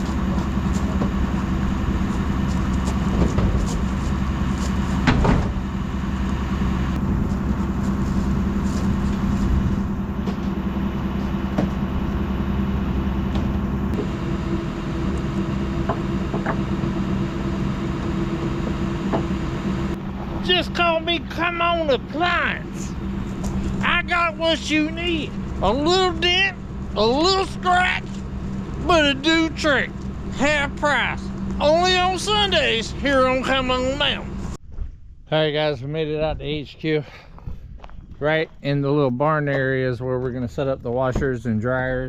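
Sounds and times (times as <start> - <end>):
vehicle engine running: 0.0 - 34.7.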